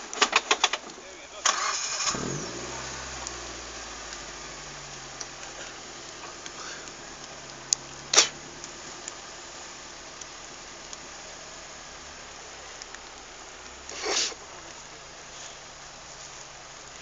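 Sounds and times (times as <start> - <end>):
faint clicks: 0.0 - 17.0
suv engine idling: 0.0 - 17.0.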